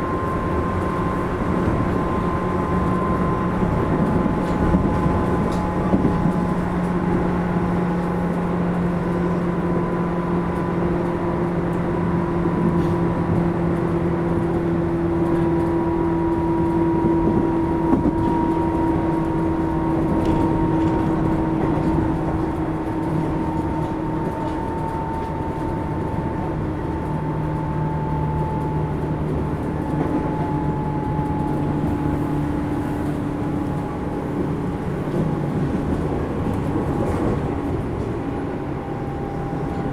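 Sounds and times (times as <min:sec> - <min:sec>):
train motor hum: 0:00.0 - 0:39.9
wheel-on-rail rumble: 0:00.0 - 0:39.9.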